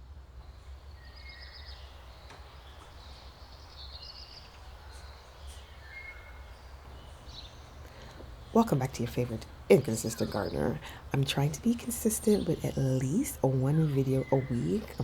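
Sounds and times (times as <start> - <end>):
small birds singing: 0.2 - 15.0.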